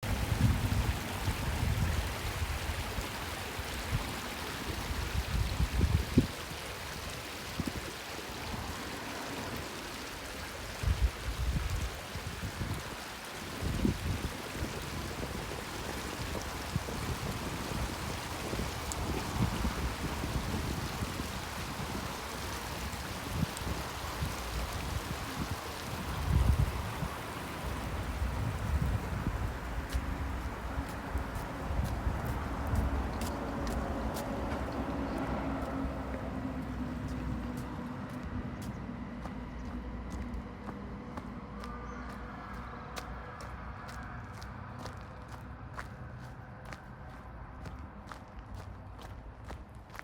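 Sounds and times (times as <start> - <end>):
wind buffeting microphone: 0.0 - 8.9, 10.7 - 42.0
small waves washing on shore: 0.0 - 50.0.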